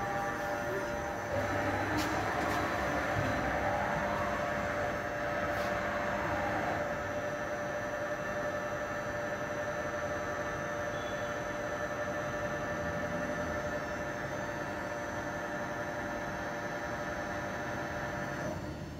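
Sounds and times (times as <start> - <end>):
machining center hum and whine: 0.0 - 18.9.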